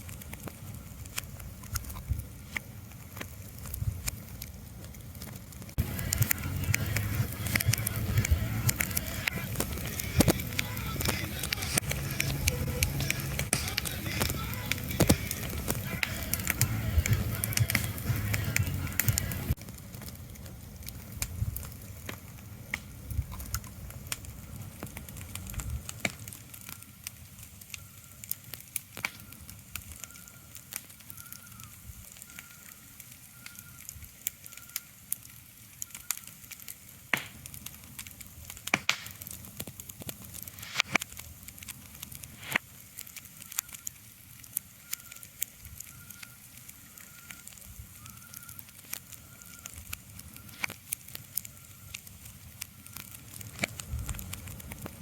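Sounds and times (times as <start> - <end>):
crackling pops and snaps: 0.0 - 55.0.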